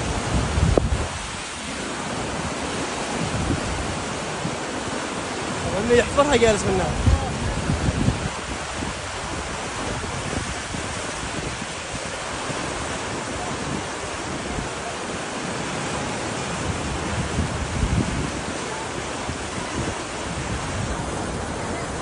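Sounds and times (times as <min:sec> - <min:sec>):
floodwater rushing: 0:00.0 - 0:22.0
wind buffeting microphone: 0:00.0 - 0:22.0.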